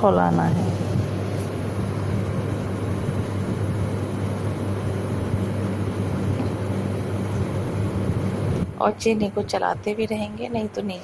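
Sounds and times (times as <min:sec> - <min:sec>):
appliance fan whooshing: 0:00.0 - 0:11.0
electric hum: 0:00.0 - 0:11.0.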